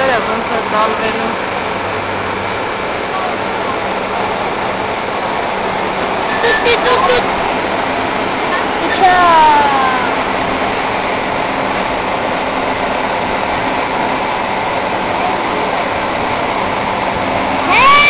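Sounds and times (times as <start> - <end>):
low truck engine hum: 0.0 - 18.0
steady rushing noise: 0.0 - 18.0.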